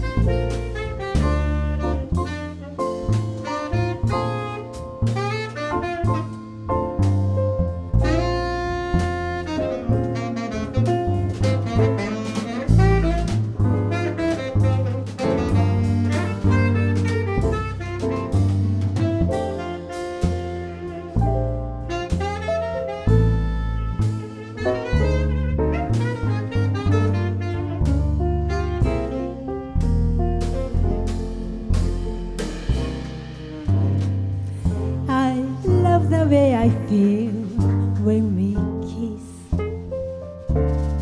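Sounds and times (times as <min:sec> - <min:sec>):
drum kit: 0:00.0 - 0:37.9
bass line: 0:00.0 - 0:41.0.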